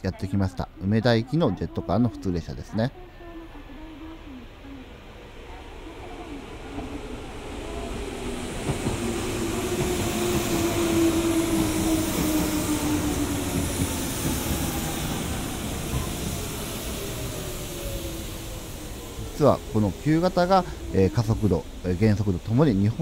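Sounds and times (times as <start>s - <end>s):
electric train running rumble: 0.6s - 23.0s
train motor whine sliding down: 3.5s - 23.0s.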